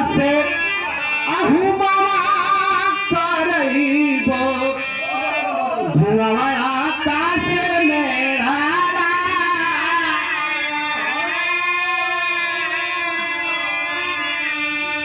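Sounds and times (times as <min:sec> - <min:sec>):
instrumental accompaniment: 0:00.0 - 0:15.0
man singing through pa system: 0:00.0 - 0:15.0.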